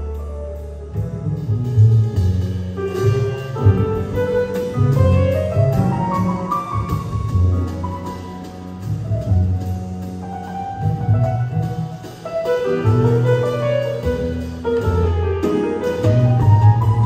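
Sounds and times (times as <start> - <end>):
double bass: 0.0 - 17.0
light drums and cymbals: 0.0 - 17.0
piano: 0.0 - 17.0.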